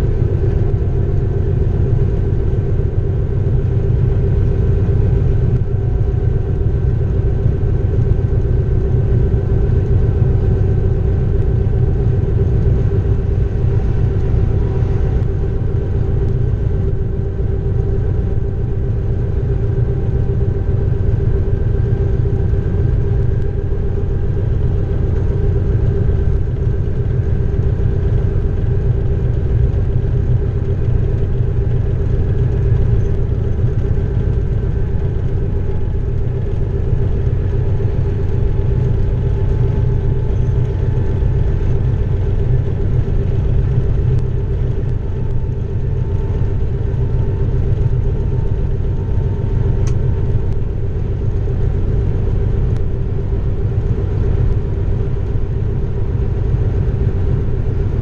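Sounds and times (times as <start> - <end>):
diesel locomotive engine droning: 0.0 - 58.0.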